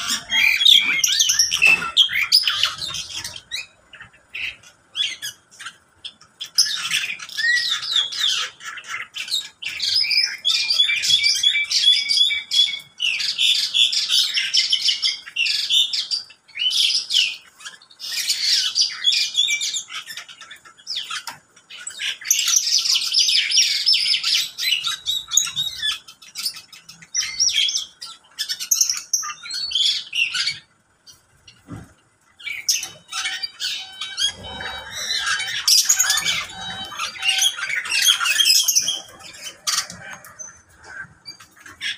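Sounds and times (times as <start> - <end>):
caged birds chirping and chattering: 0.0 - 41.9.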